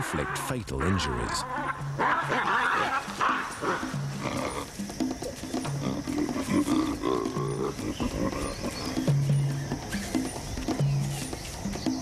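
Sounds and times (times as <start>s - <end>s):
baboons harsh calls: 0.0s - 11.3s.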